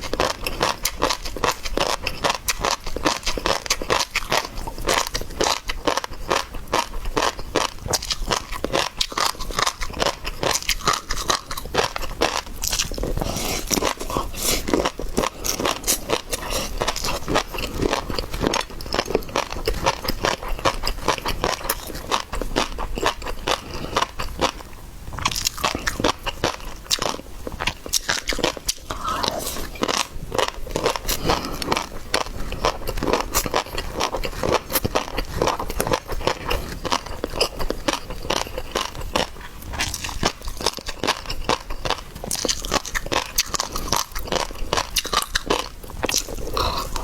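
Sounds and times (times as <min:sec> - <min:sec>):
wet crunching and chewing: 0:00.0 - 0:47.0.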